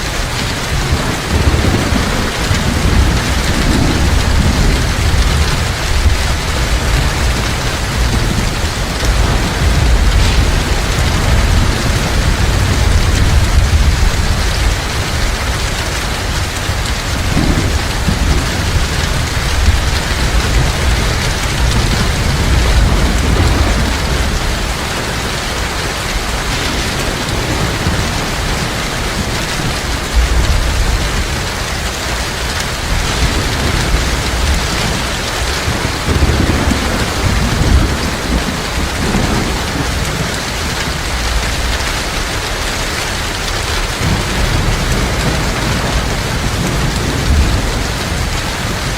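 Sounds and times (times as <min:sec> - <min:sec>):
heavy rain falling: 0:00.0 - 0:48.9
low thunder rumbling: 0:00.0 - 0:48.9.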